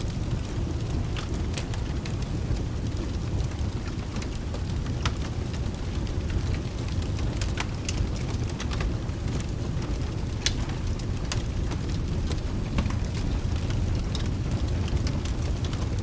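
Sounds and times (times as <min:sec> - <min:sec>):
low continuous rumble: 0:00.0 - 0:16.0
steady rain: 0:00.0 - 0:16.0
wood fire crackling and popping: 0:00.0 - 0:16.0.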